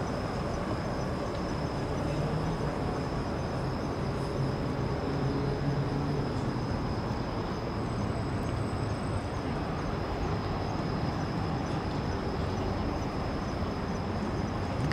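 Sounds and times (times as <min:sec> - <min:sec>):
distant city traffic rumble: 0:00.0 - 0:14.9.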